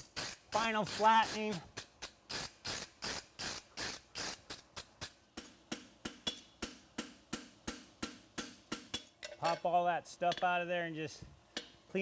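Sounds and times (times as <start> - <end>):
wire brush scrubbing hot steel: 0.0 - 10.8.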